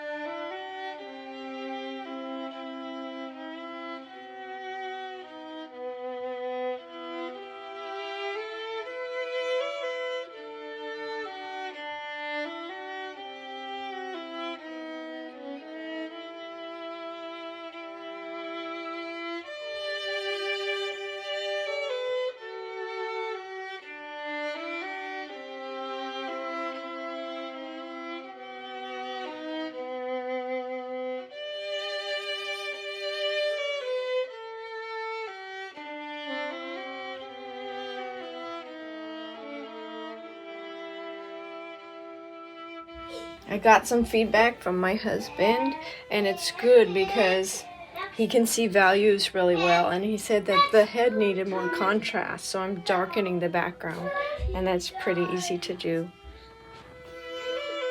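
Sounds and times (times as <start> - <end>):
slow violin melody: 0.0 - 57.9.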